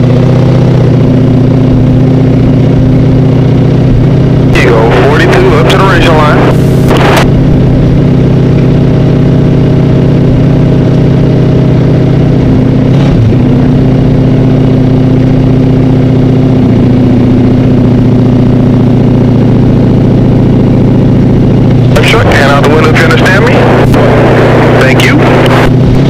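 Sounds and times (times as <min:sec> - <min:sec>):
race car engine running: 0:00.0 - 0:26.0.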